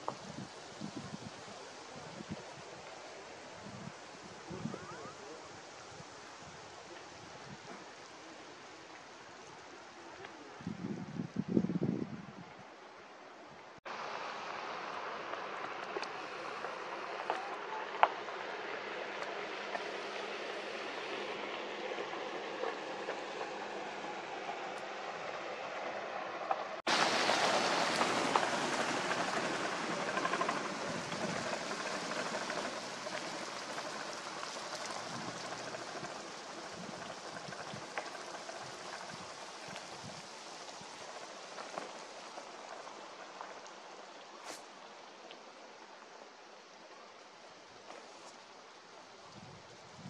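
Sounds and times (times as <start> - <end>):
wind rustling leaves: 0.0 - 50.0.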